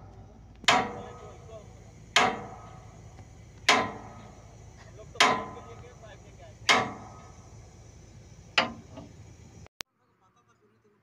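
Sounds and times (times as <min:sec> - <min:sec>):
hammer blows on steel: 0:00.0 - 0:09.7.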